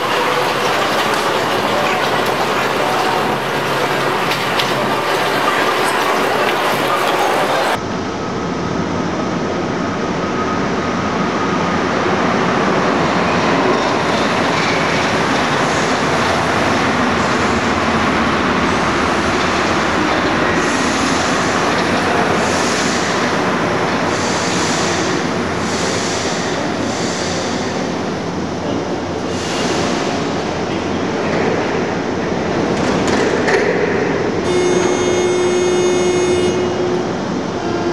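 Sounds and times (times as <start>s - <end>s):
train rumbling: 0.0s - 37.9s.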